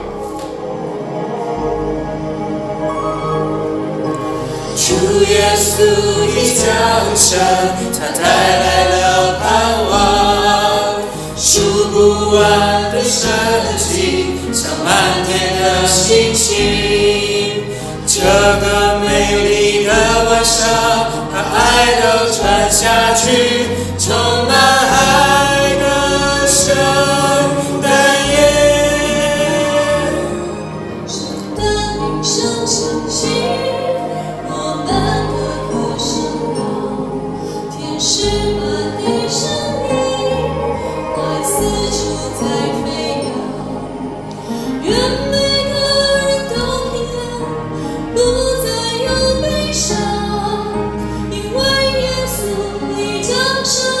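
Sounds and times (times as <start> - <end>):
musical accompaniment with bass: 0.0 - 54.0
vocal group singing in harmony: 0.0 - 54.0.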